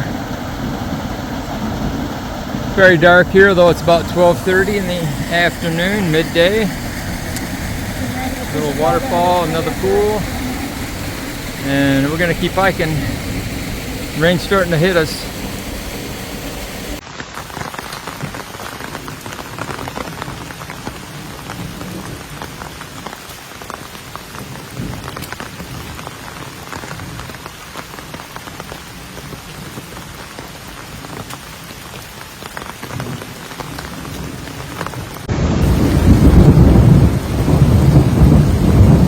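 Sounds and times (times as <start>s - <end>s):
rain falling: 0.0s - 39.0s
raindrops ticking sharply: 0.0s - 39.0s.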